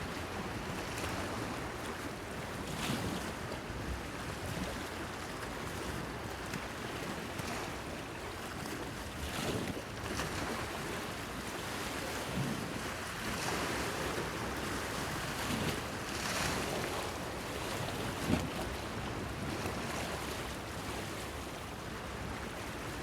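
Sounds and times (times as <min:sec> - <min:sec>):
small waves lapping and splashing: 0:00.0 - 0:23.0.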